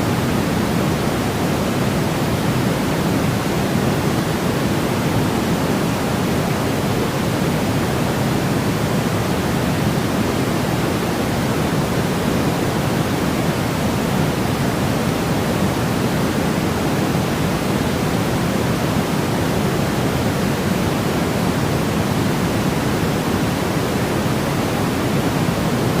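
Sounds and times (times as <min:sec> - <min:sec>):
deep white noise hiss: 0:00.0 - 0:26.0.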